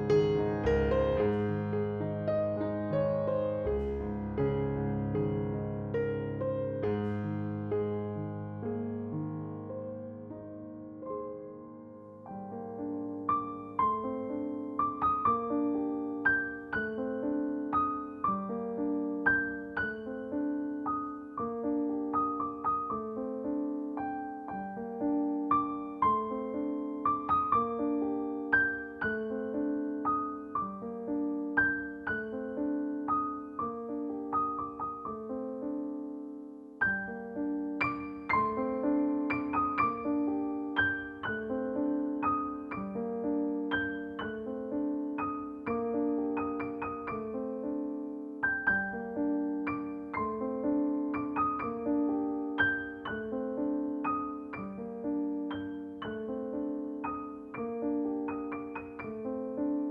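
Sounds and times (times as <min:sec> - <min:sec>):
gentle solo piano: 0:00.0 - 0:59.9.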